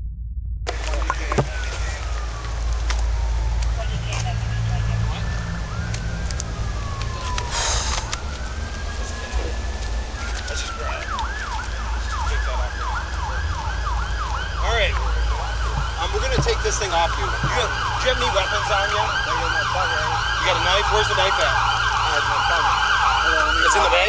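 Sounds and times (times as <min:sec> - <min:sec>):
siren yelping: 0:00.7 - 0:24.0.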